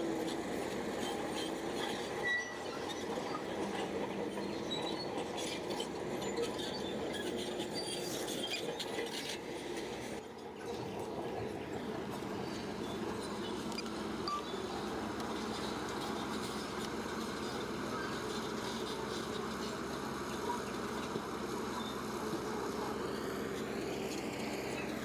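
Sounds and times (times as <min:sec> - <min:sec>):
bulldozer diesel engine running: 0:00.0 - 0:25.0
steel tracks clanking and squeaking: 0:00.0 - 0:25.0.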